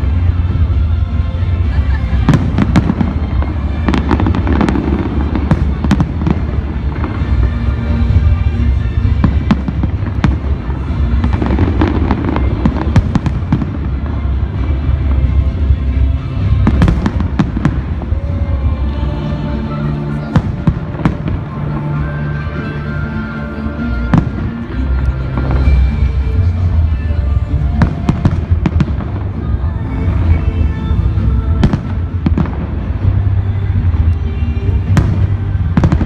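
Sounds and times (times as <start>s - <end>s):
fireworks bursting and crackling: 0.0s - 36.0s
loud music with heavy bass: 0.0s - 36.0s.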